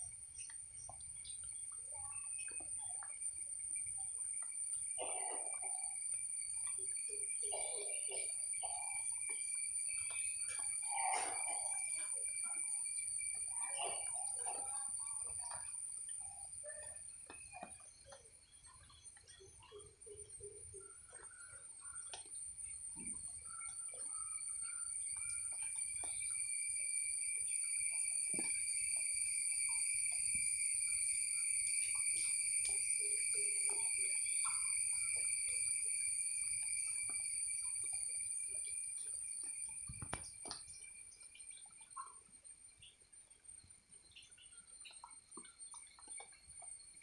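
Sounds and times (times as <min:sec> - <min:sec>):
high-pitched insect drone: 0:00.0 - 0:47.0
bird chirps: 0:00.1 - 0:03.4, 0:06.6 - 0:12.8, 0:13.4 - 0:26.8, 0:29.7 - 0:47.0.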